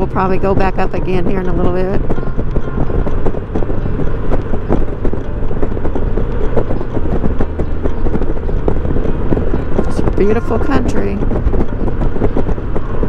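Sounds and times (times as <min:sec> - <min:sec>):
motorcycle engine and road hum: 0:00.0 - 0:13.0
wind buffeting microphone: 0:00.0 - 0:13.0.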